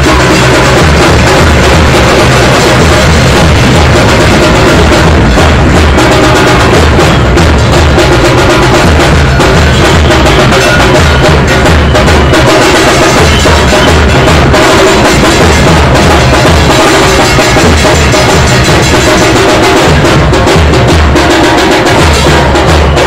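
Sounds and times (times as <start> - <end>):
deep drum beats: 0.0 - 23.0
fast crackling drum strokes: 0.0 - 23.0.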